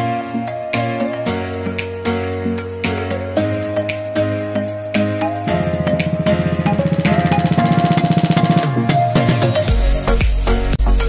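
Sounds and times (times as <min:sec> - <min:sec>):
held melody line: 0:00.4 - 0:11.0
bass notes: 0:01.2 - 0:11.0
steady ticking beat: 0:01.5 - 0:11.0.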